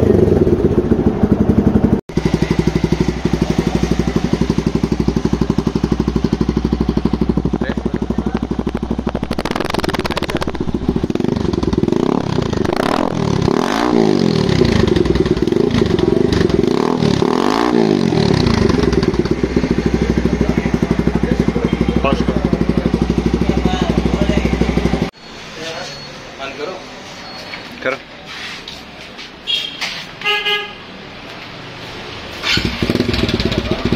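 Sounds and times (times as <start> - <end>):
motorcycle engine idling and revving: 0.0 - 25.2, 31.1 - 33.9.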